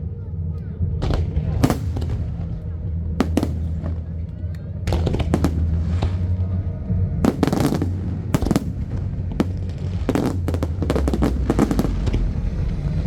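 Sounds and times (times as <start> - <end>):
steady low rumble: 0.0 - 13.0
fireworks crackling: 1.1 - 13.0.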